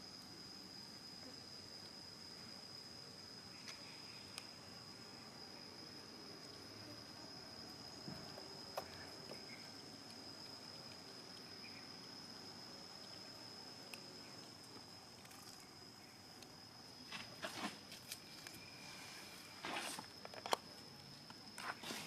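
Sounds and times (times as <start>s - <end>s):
high insect whine: 0.0s - 22.0s.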